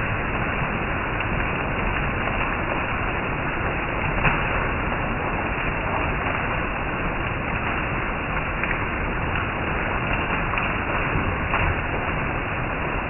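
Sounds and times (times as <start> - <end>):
heavy rain on leaves and roof: 0.0 - 13.0
water running off roof: 0.0 - 13.0.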